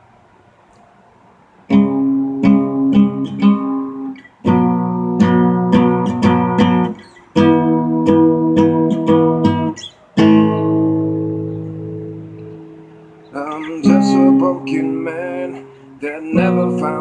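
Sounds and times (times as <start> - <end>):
acoustic guitar strumming chords: 1.7 - 17.0.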